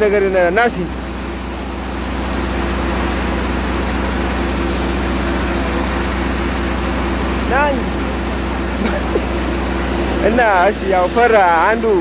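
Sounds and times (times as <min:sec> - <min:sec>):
grain mill whirring: 0:00.0 - 0:12.0
tractor engine idling: 0:00.0 - 0:12.0.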